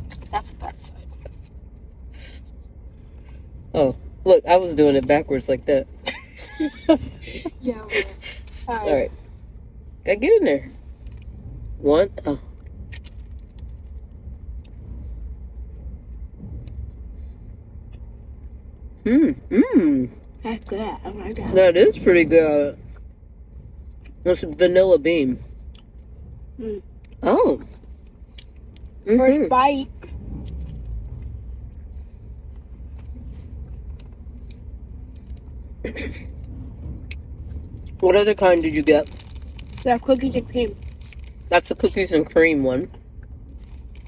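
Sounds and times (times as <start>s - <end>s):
steady low rumble: 0.0s - 44.0s
vehicle idling: 0.0s - 44.0s.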